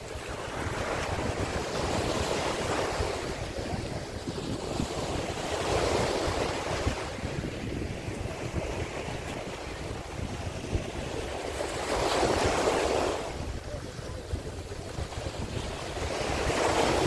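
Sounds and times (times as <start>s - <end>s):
small waves breaking on shore: 0.0s - 17.0s
wind rumbling on microphone: 0.0s - 17.0s.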